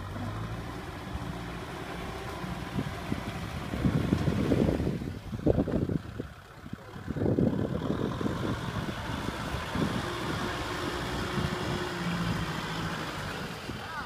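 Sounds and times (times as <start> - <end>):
low wind gusts: 0.0 - 14.0
tractor diesel engines running: 0.0 - 14.0.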